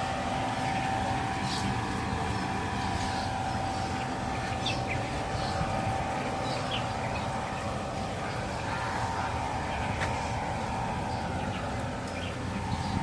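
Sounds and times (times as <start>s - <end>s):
constant hum: 0.0s - 13.0s
outdoor rumble: 0.0s - 13.0s
small birds chirping: 0.0s - 13.0s.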